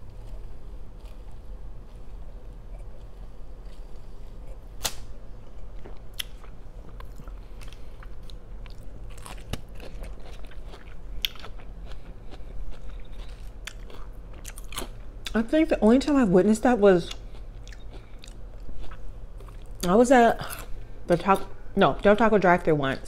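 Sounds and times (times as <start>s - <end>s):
person chewing crunchy food: 0.0s - 15.4s, 17.1s - 20.9s.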